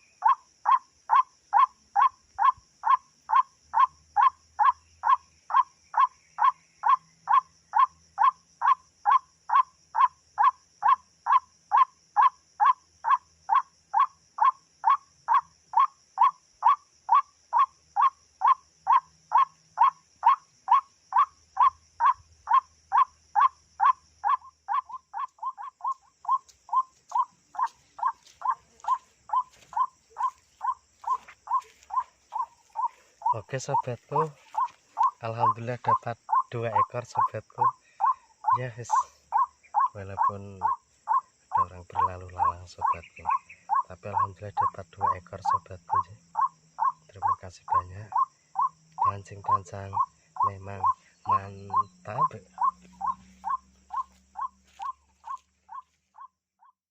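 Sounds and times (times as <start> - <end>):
waterhen calling: 0.0 - 9.2, 10.0 - 56.3
high insect-like hiss: 0.0 - 56.1.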